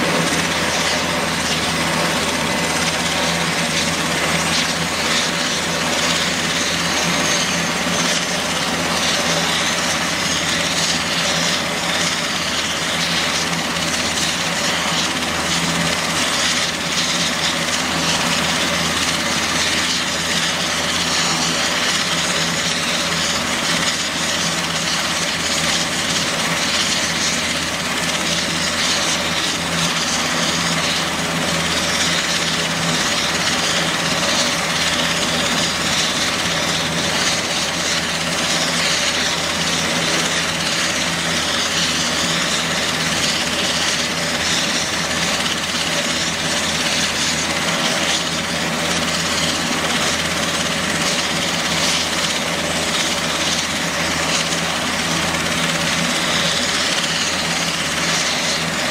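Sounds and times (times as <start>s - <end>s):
helicopter turbine and rotor noise: 0.0s - 58.9s.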